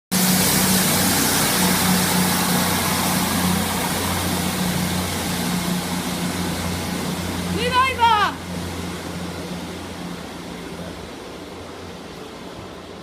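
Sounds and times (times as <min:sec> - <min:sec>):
train engine hum: 0:00.1 - 0:13.0.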